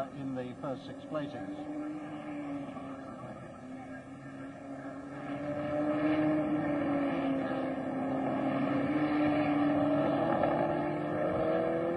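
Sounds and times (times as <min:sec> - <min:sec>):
racing car engine at high revs: 0:00.0 - 0:11.9.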